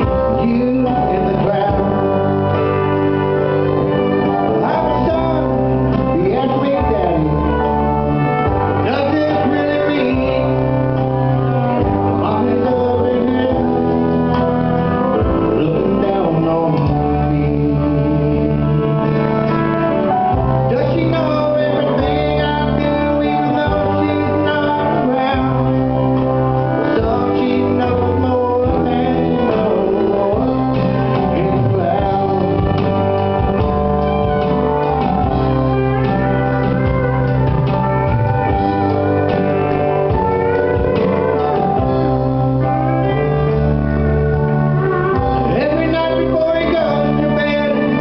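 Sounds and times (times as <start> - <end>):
bass line: 0.0 - 48.0
person singing: 0.0 - 48.0.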